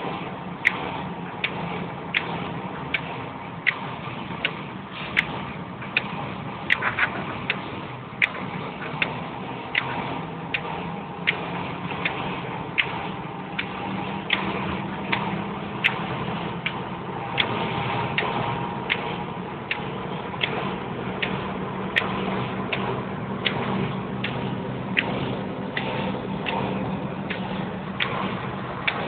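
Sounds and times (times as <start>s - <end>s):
car cabin running hum: 0.0s - 29.0s
even ticking: 0.0s - 29.0s.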